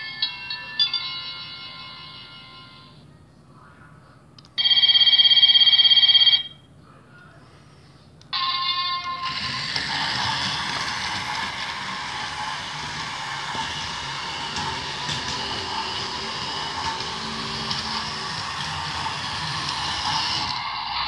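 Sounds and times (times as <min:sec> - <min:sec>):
loud electronic ringing bell: 0:00.0 - 0:03.0, 0:04.6 - 0:06.6, 0:08.3 - 0:21.0.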